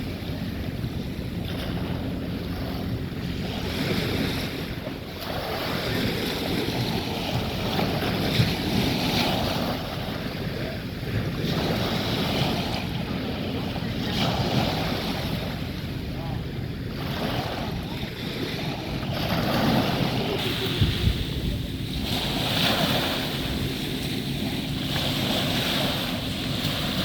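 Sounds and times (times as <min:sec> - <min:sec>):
waves washing onto sandy beach: 0:00.0 - 0:27.0
wind rumbling on microphone: 0:00.0 - 0:27.0.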